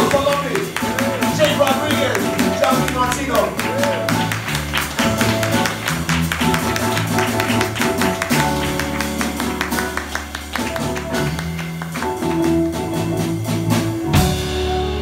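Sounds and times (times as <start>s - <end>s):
quick sharp percussive taps: 0.0s - 12.6s
drum kit: 0.0s - 15.0s.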